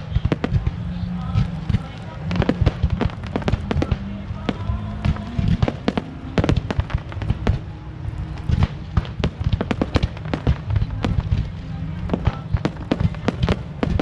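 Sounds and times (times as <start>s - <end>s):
fireworks bangs and crackles: 0.0s - 14.0s
low rumble: 0.0s - 14.0s.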